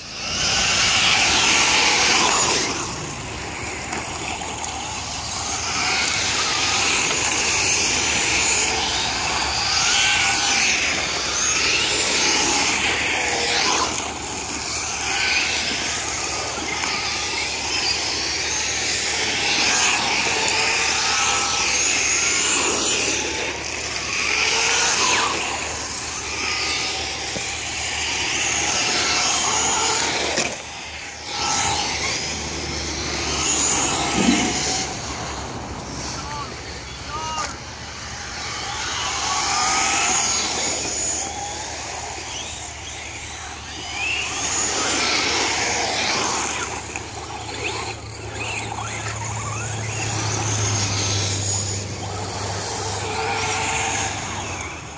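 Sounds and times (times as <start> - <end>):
electric toy truck motors whining: 0.0 - 54.9.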